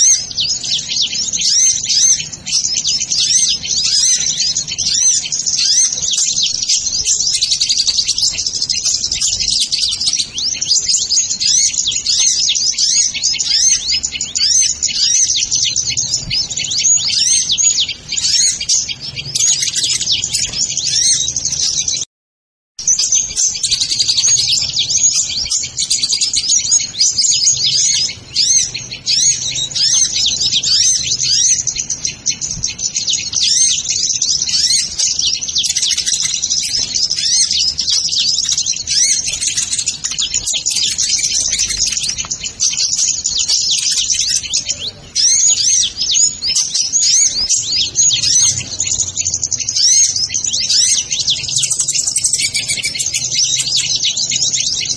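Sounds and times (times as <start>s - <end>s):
birds chirping and twittering: 0.0s - 22.1s, 22.8s - 54.9s.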